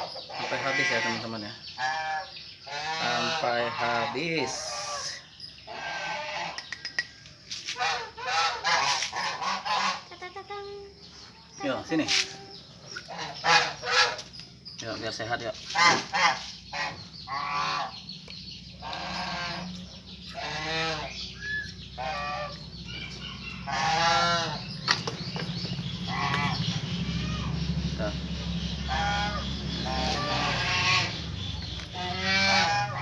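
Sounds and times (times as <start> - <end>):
geese honking: 0.0 - 6.7, 7.6 - 10.6, 11.6 - 33.0.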